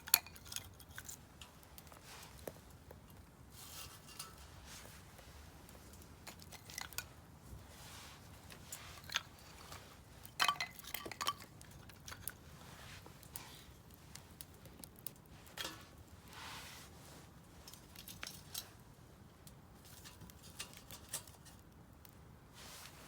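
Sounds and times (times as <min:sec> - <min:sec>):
firewood crackling and popping: 0:00.0 - 0:23.0.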